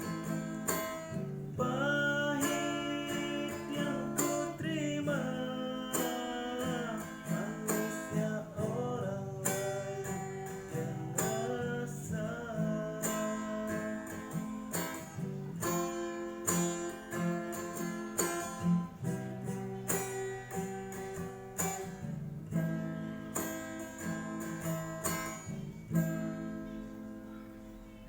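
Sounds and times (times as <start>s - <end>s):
acoustic guitar strumming chords: 0.0s - 28.0s.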